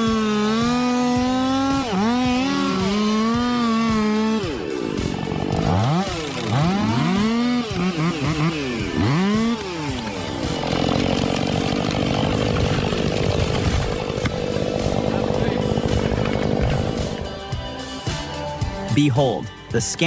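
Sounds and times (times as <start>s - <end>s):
chainsaw revving: 0.0s - 18.2s
steady engine: 0.0s - 18.7s.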